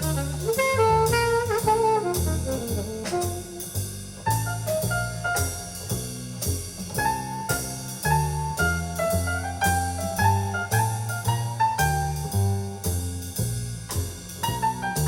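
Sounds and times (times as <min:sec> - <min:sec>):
bass: 0:00.0 - 0:15.0
drum kit: 0:00.0 - 0:15.0
jazz horn lead: 0:00.0 - 0:15.0.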